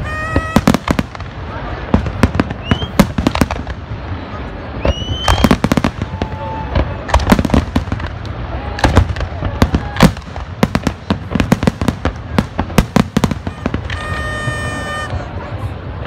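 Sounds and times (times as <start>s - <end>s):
fireworks bursting with bangs: 0.0s - 16.0s
fireworks crackling: 0.0s - 16.0s.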